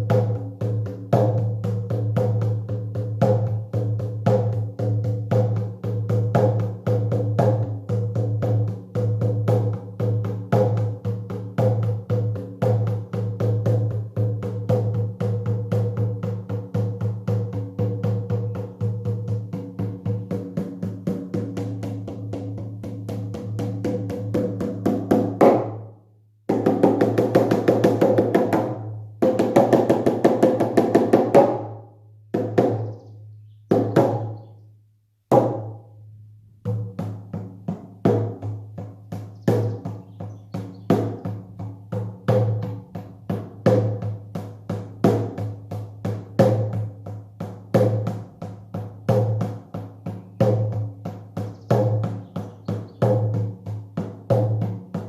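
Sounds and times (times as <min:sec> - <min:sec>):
hand drum beating: 0:00.0 - 0:25.9, 0:26.5 - 0:34.5, 0:35.3 - 0:35.9, 0:36.6 - 0:55.0.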